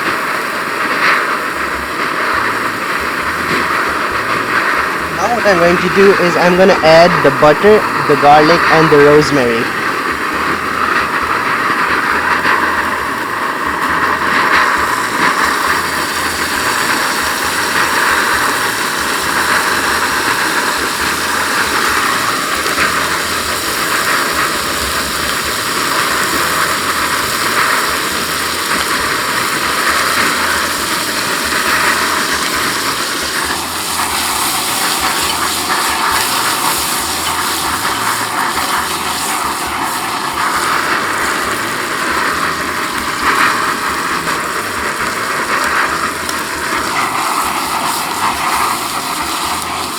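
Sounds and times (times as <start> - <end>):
steak sizzling in skillet: 0.0 - 5.2, 8.6 - 49.9.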